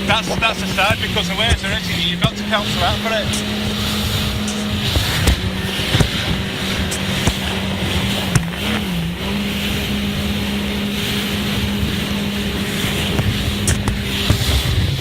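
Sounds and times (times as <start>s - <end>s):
jet ski engine running: 0.0s - 15.0s
wind and water rushing: 0.0s - 15.0s.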